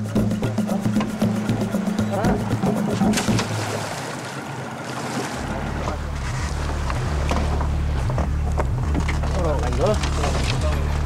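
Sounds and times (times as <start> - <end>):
motorboat engine droning: 0.0 - 11.0
water noise: 0.0 - 11.0
wind: 0.0 - 11.0.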